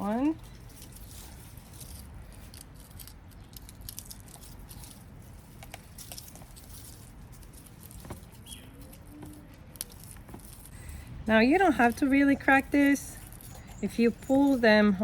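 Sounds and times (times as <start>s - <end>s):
dry seed heads crackling: 0.0s - 15.0s
faint steady background noise: 0.0s - 15.0s.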